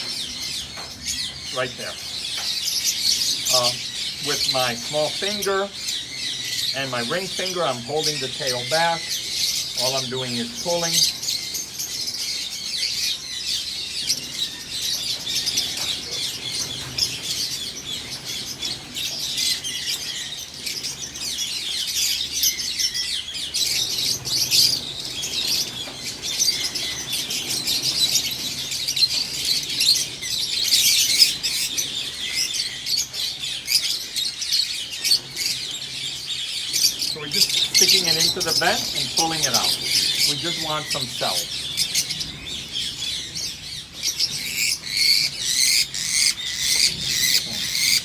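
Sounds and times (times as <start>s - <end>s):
lovebirds chirping: 0.0s - 48.0s.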